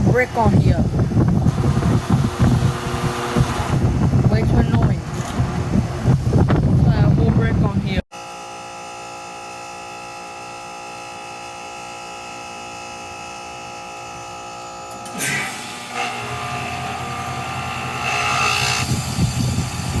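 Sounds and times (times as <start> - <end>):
heat pump unit humming: 0.0 - 7.0, 7.7 - 20.0.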